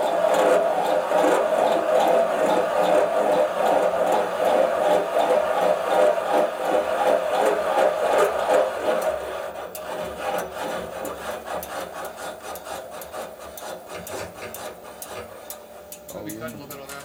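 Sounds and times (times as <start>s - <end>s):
valve seat cutter scraping: 0.0s - 17.0s.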